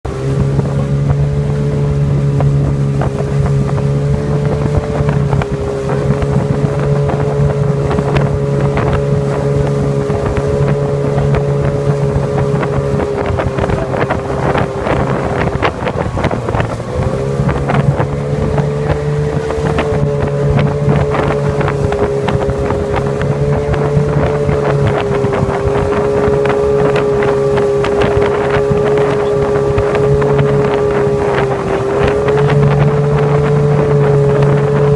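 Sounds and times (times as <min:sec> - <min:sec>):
motorboat engine running: 0:00.0 - 0:34.9
wind buffeting microphone: 0:00.1 - 0:34.9.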